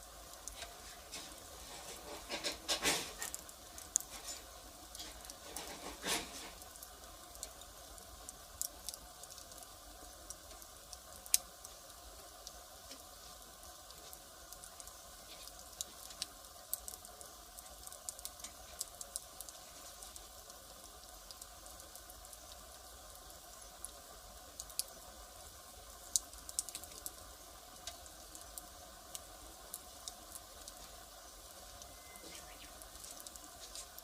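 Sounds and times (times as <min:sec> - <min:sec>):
faint steady hiss: 0:00.0 - 0:34.0
fire crackling and popping: 0:00.0 - 0:34.0.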